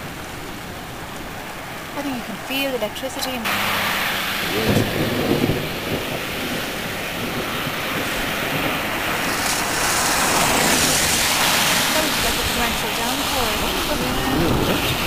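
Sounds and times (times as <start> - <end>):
rain and wind against car: 0.0 - 15.0.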